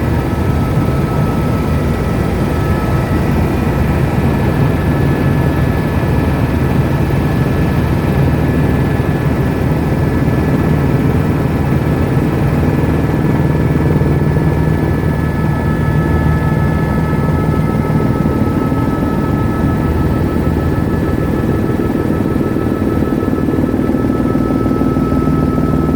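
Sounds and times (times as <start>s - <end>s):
helicopter rotor and engine drone: 0.0s - 25.9s.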